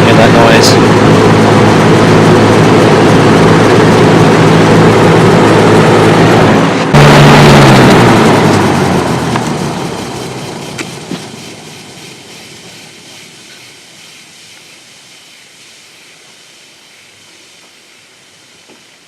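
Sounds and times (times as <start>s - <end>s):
fan spinning down: 0.0s - 19.0s.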